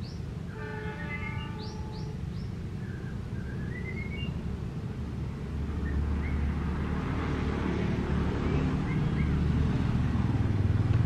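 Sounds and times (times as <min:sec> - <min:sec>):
birds chirping: 0:00.0 - 0:10.0
locomotive engine drone: 0:00.0 - 0:11.0.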